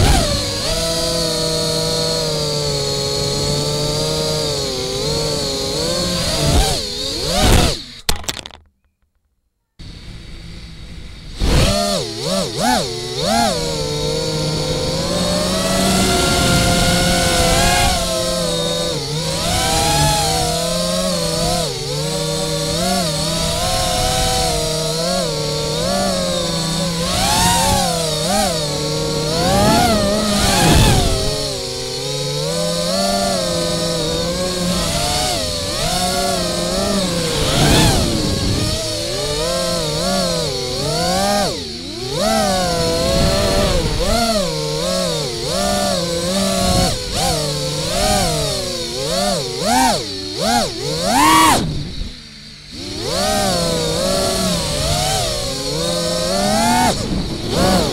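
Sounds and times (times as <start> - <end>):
quadcopter motors whining: 0.0 - 8.6, 9.8 - 57.9.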